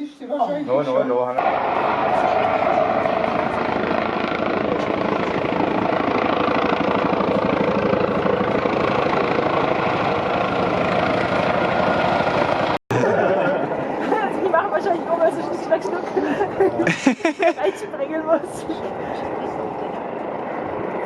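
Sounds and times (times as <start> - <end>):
helicopter rotor chopping: 1.4 - 21.0.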